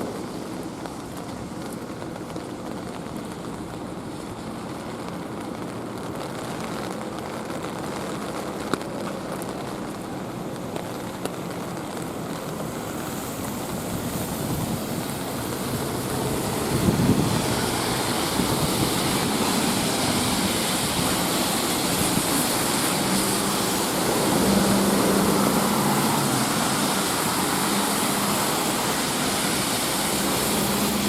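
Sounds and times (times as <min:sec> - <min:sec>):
light rain hiss: 0:00.0 - 0:31.0
wet traffic: 0:00.0 - 0:31.0.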